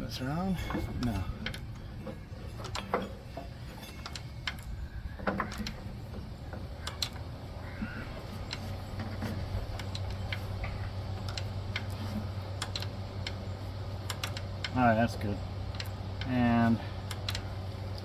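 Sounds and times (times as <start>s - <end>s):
drive belt and metal parts clicking: 0.0s - 18.0s
steady low hum: 0.0s - 18.0s.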